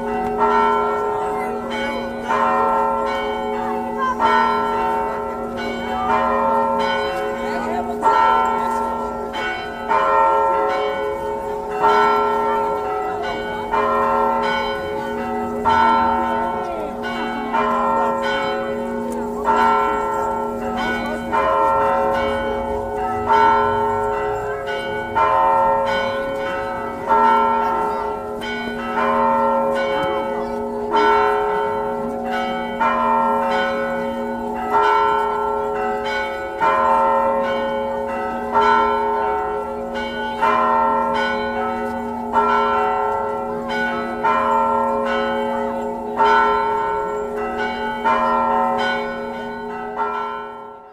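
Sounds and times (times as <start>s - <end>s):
church bell ringing: 0.0s - 50.9s.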